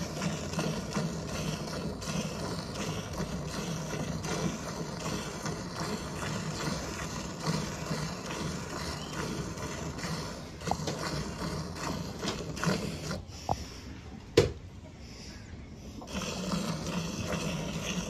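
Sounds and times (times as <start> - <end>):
milk squirting into pail: 0.0 - 13.3, 16.0 - 18.0.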